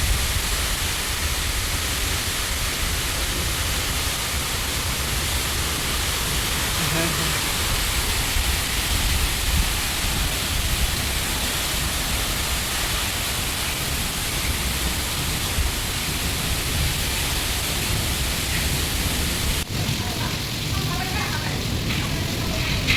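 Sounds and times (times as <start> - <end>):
heavy rain: 0.0 - 22.9
low thunder rumble: 0.0 - 22.9.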